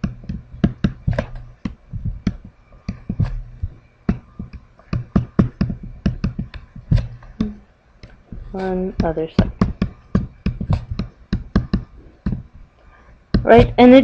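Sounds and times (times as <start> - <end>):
faint steady hum: 0.0 - 14.0
stylus tapping on tablet screen: 0.0 - 14.0.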